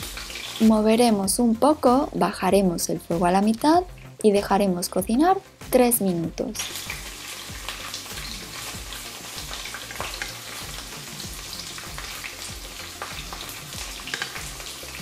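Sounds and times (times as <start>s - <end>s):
onion sizzling in oil: 0.0s - 15.0s.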